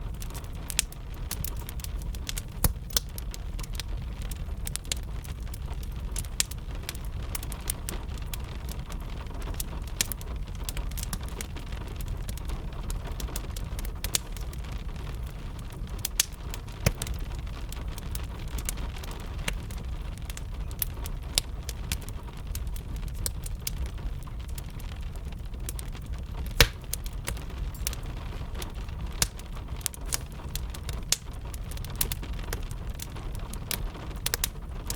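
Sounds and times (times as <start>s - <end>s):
rain pattering: 0.0s - 34.9s
wood fire crackling: 0.0s - 34.9s.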